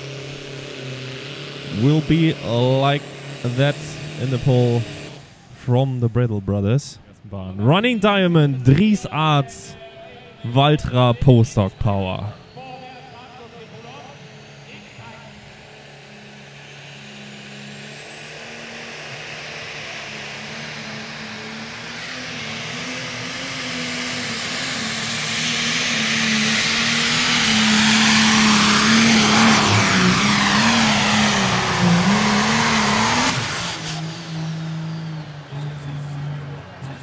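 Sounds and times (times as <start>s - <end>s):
tractor diesel engine at full power: 0.0s - 6.8s, 10.4s - 37.0s.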